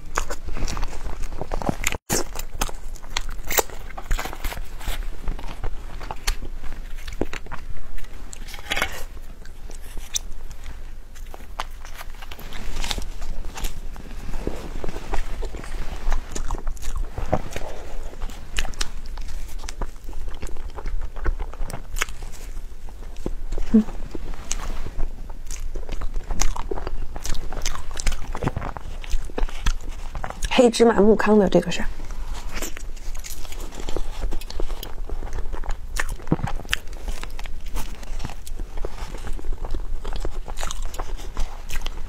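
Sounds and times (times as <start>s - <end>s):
wet chewing and mouth smacking: 0.0s - 30.6s, 32.0s - 42.0s.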